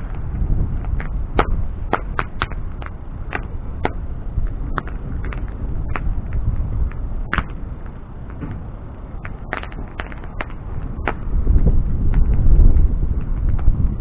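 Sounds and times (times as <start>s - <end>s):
bonfire crackling: 0.0s - 14.0s
low rumble of fire: 0.0s - 14.0s
sharp pops of burning wood: 0.0s - 14.0s.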